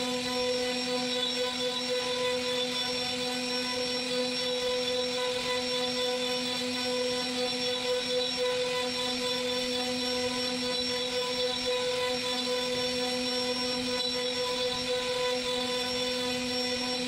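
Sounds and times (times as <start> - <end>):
cnc router cutting wood: 0.0 - 17.0.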